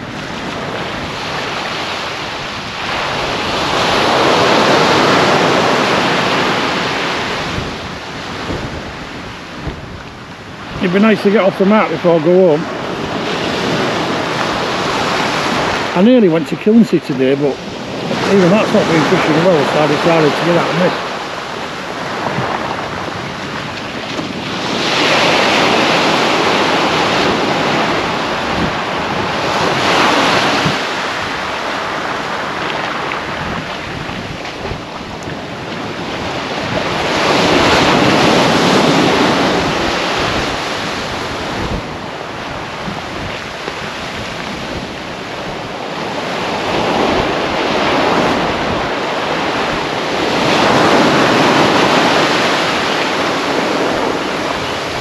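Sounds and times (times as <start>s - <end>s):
waves breaking on beach: 0.0s - 55.0s
wind buffeting microphone: 0.0s - 55.0s.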